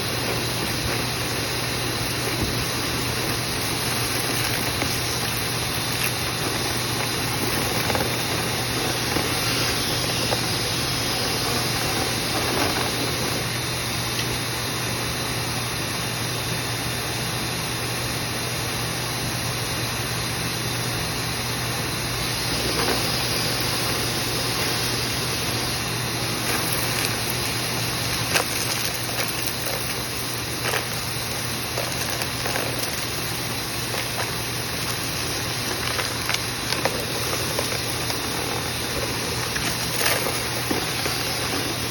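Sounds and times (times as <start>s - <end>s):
vent cleaning machine running: 0.0s - 41.9s.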